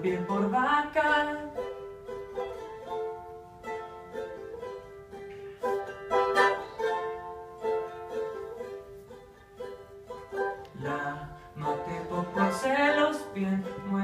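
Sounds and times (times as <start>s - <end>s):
plucked string instrument melody: 0.0s - 14.0s
strummed chords: 0.0s - 14.0s.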